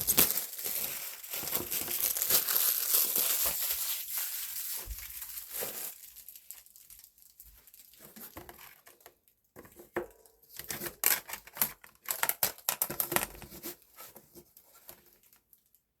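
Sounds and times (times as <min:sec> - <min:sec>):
plastic film peeling and crackling: 0:00.0 - 0:09.4, 0:10.5 - 0:13.9.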